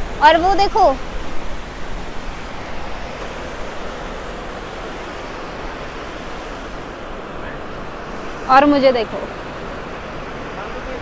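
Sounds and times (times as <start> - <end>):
water rushing down outflow: 0.0 - 11.0.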